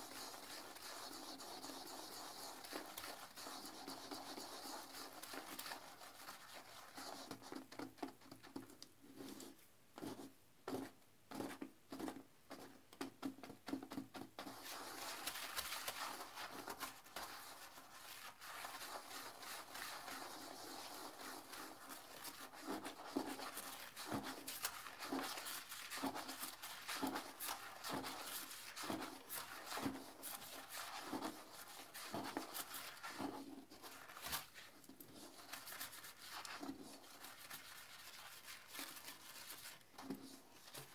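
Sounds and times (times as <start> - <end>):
toilet brush scrubbing bowl: 0.0 - 12.7, 13.7 - 40.9.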